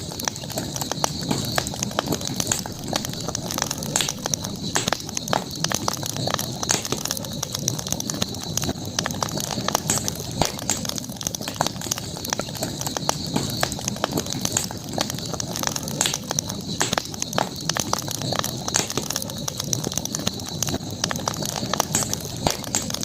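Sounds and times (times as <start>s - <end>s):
campfire crackling and popping: 0.0s - 23.0s
steady high hiss: 0.0s - 23.0s.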